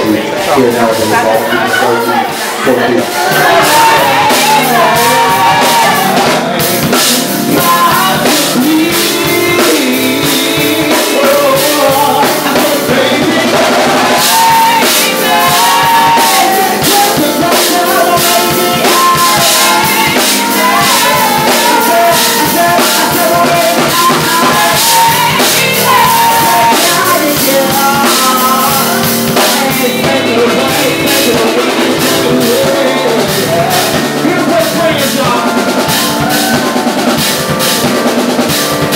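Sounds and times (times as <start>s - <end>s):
man singing: 0.0s - 36.6s
live band playing: 0.0s - 38.9s.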